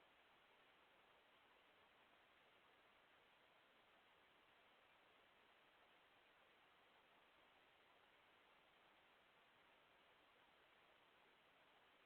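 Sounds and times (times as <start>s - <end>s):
faint noise floor hiss: 0.0s - 12.0s.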